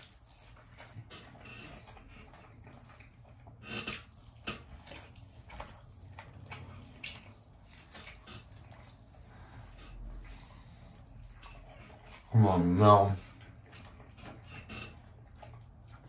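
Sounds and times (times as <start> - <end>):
wet chewing and lip-smacking: 0.0 - 12.4, 13.2 - 16.0.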